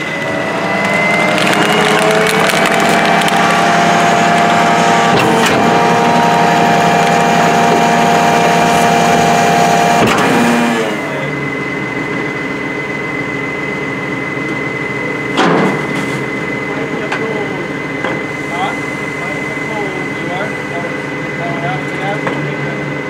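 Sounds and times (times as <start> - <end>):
garbage truck engine whining: 0.0 - 23.0.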